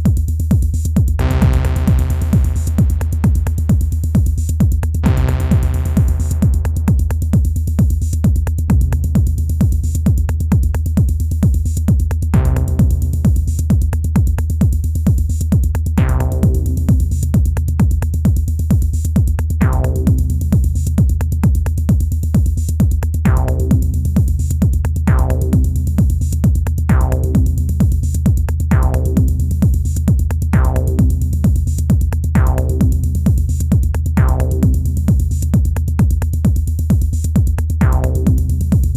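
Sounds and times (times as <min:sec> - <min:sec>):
techno drum machine beat: 0:00.0 - 0:38.9.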